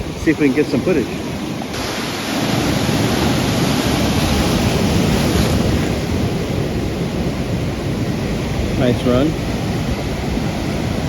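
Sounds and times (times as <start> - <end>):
ocean surf washing ashore: 0.0 - 11.0
wind rumbling on microphone: 0.0 - 11.0.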